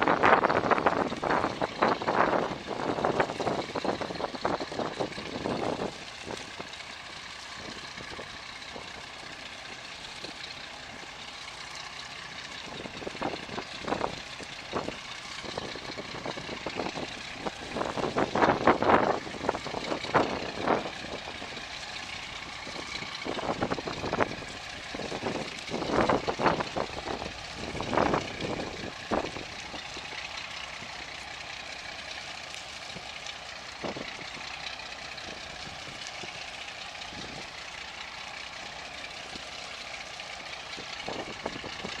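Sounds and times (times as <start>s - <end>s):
boat engine: 0.0s - 42.0s
water rushing against boat: 0.0s - 42.0s.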